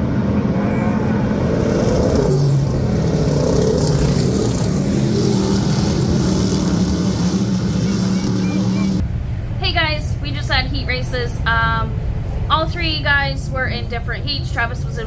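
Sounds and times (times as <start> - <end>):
race car engines running: 0.0 - 15.0.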